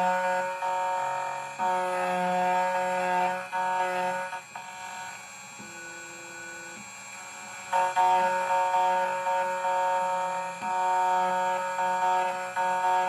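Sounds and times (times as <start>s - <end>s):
key cutting machine whining: 0.0s - 13.0s.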